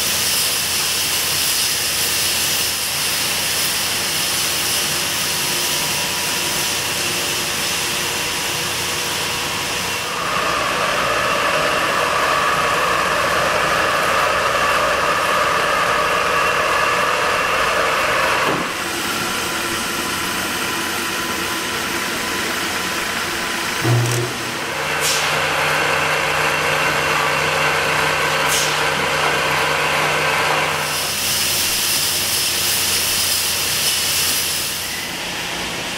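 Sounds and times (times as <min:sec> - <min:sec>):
machinery humming and hissing: 0:00.0 - 0:35.9.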